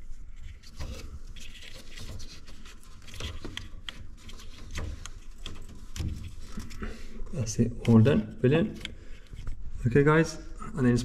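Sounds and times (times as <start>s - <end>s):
cables rustling: 0.0s - 9.8s.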